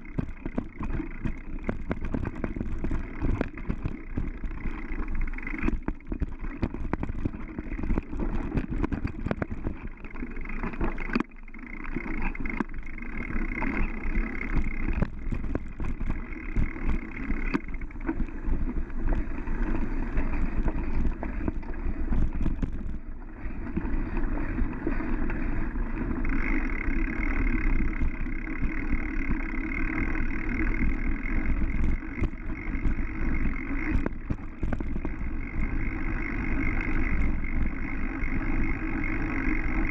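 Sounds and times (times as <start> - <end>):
bike rattling over bumps: 0.0 - 39.9
wind and tyre noise: 0.0 - 39.9.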